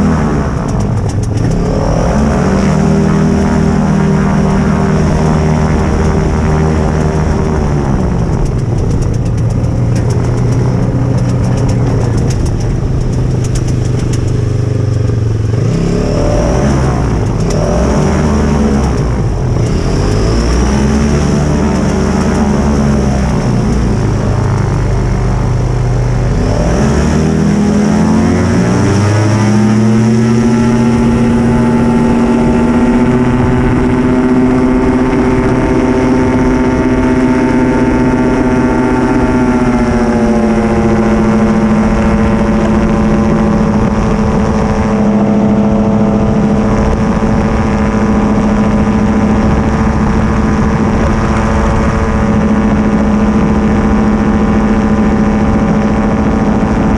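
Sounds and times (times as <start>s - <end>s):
aircraft propeller engine: 0.0s - 56.9s.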